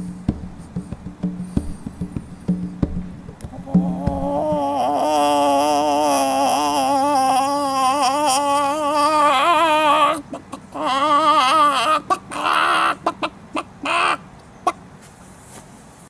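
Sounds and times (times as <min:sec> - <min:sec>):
hen clucking and squawking: 0:00.0 - 0:14.8.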